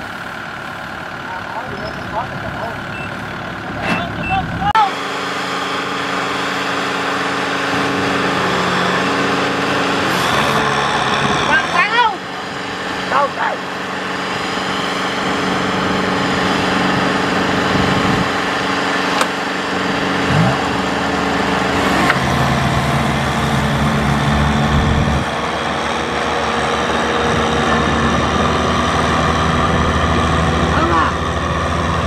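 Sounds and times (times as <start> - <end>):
diesel engines under load: 0.0 - 32.0.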